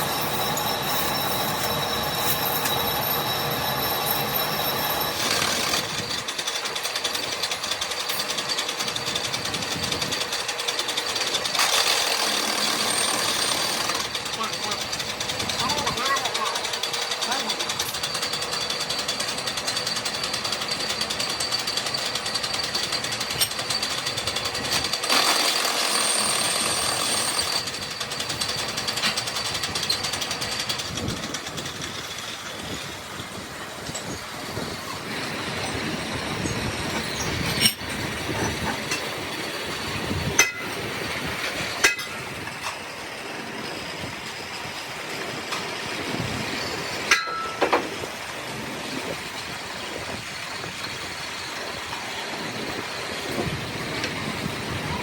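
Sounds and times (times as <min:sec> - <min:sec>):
workshop machinery rattling: 0:00.0 - 0:55.0.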